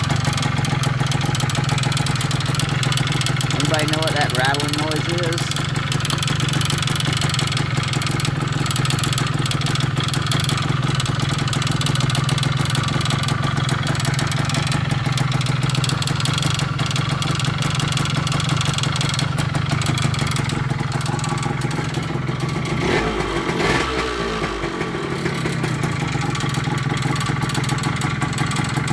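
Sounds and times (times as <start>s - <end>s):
rattling ticking from cylinder: 0.0s - 22.9s, 24.7s - 28.9s
motorcycle engine idling: 0.0s - 28.9s.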